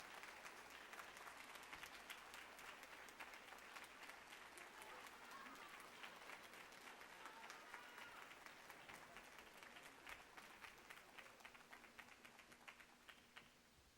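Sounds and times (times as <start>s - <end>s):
faint audience applause: 0.0s - 13.9s.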